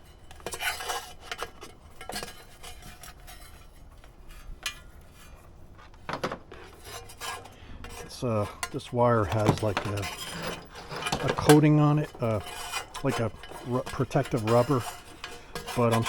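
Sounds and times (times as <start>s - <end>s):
wire scraping through metal hole: 0.0s - 16.0s.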